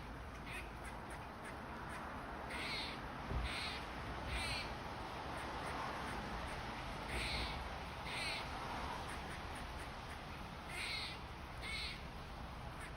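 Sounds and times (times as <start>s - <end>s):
squirrel calling: 0.3s - 4.8s, 5.4s - 12.1s.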